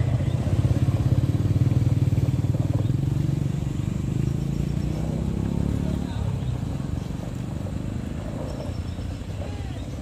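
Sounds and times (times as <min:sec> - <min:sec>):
truck engine pulling under load: 0:00.0 - 0:10.0.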